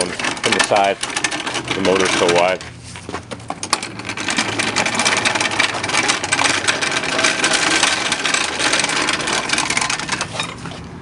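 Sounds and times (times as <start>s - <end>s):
floor jack wheels grinding on pavement: 0.0s - 11.0s.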